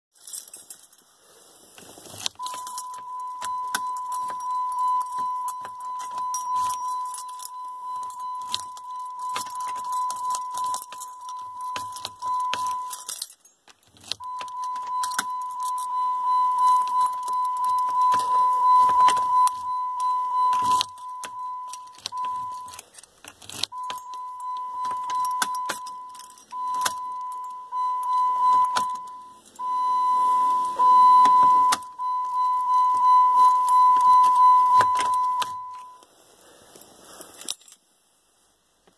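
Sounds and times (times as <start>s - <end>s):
keys jangling in ignition: 0.2s - 1.4s, 2.0s - 36.0s, 36.8s - 37.8s
ignition warning chime: 2.4s - 13.3s, 14.0s - 22.9s, 23.6s - 36.0s.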